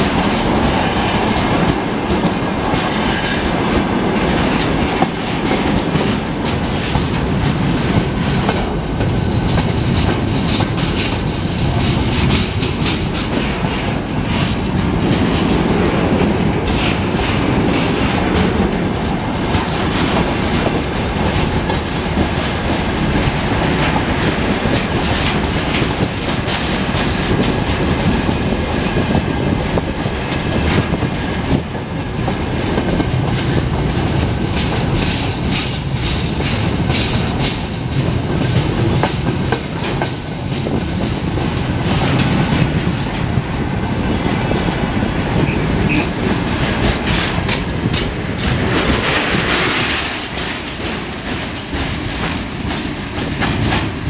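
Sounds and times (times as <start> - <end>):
steel wheels rumbling: 0.0 - 54.0
wheels clicking over rail joints: 0.0 - 54.0.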